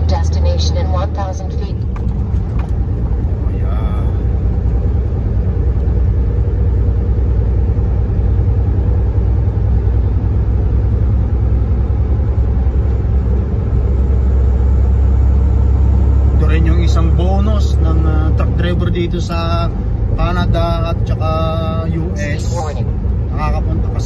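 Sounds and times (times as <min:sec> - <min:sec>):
road rumble: 0:00.0 - 0:24.0
truck engine drone: 0:00.0 - 0:24.0.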